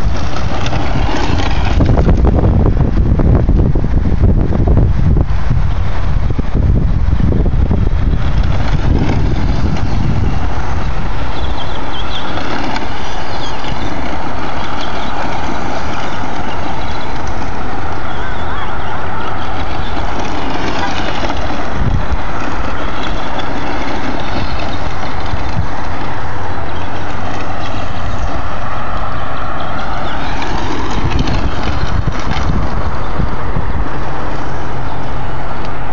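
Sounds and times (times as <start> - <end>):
wind rumble on microphone: 0.0 - 35.9.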